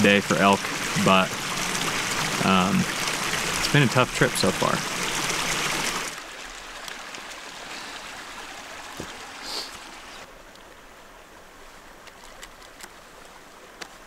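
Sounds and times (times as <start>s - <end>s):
stream water running: 0.0s - 14.0s.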